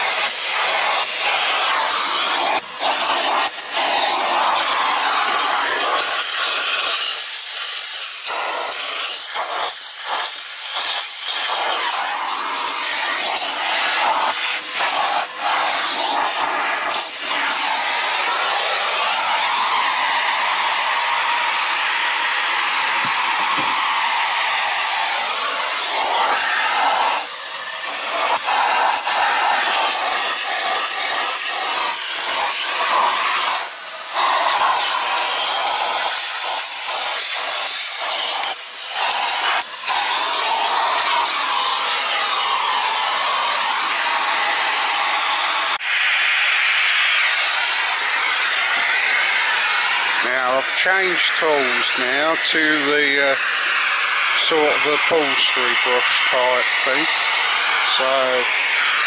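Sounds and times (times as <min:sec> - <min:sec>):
vacuum cleaner sucking air: 0:00.0 - 0:59.0.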